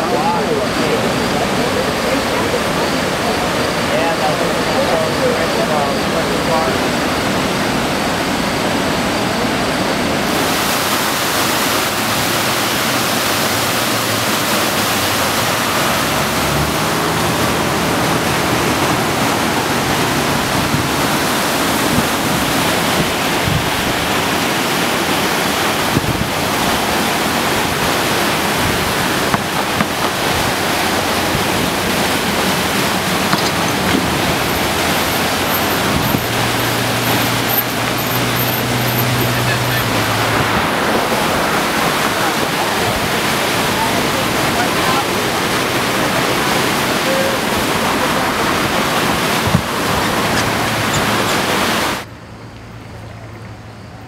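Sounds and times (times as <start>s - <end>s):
floodwater rushing: 0.0s - 52.2s.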